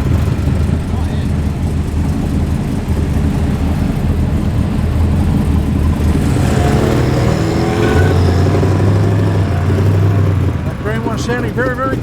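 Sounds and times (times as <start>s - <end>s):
car engine revving: 0.0s - 12.0s
car engine running deep: 0.0s - 12.0s.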